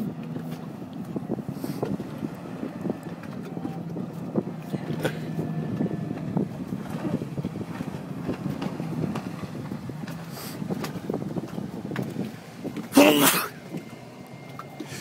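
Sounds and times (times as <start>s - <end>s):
distant watercraft engine drone: 0.0s - 15.0s
wind on microphone: 0.0s - 15.0s.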